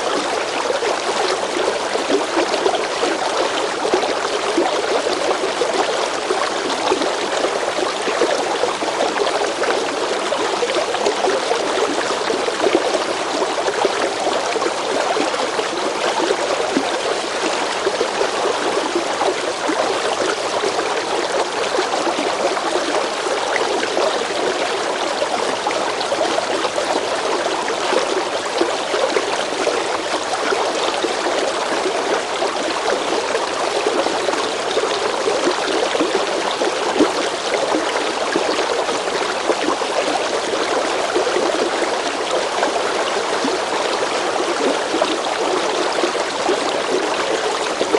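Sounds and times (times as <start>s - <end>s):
river water flowing over rocks: 0.0s - 47.9s.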